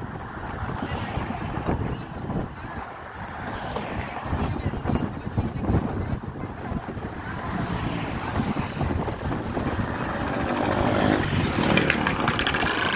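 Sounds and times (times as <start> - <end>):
road noise: 0.0 - 12.9
vehicle engine rumble: 0.0 - 12.9
wind buffeting microphone: 0.0 - 12.9.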